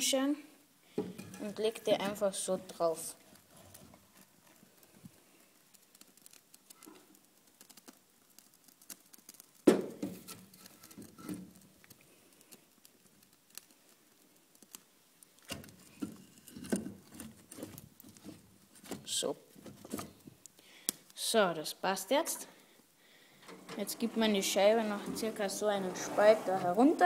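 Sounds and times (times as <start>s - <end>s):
fire crackling: 0.4s - 27.0s.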